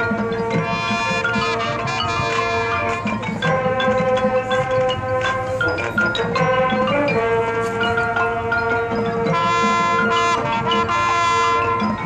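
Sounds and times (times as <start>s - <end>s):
mallet percussion: 0.0s - 12.0s
marching band playing chords: 0.0s - 12.0s.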